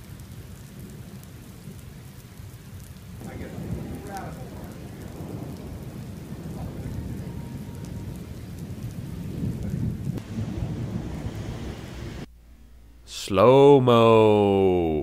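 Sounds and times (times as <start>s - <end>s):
heavy rain: 0.0s - 12.3s
thunder rumbling: 0.0s - 12.3s.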